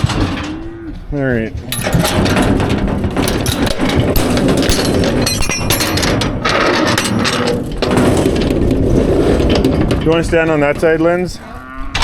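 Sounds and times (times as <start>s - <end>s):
steel gates clanking and rattling: 0.0s - 12.0s.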